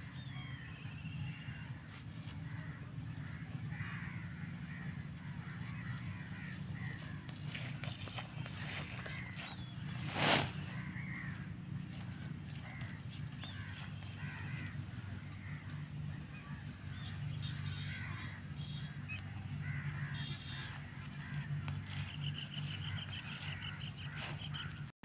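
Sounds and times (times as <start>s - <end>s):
birds calling: 0.0s - 24.9s
steady low hum: 0.0s - 24.9s.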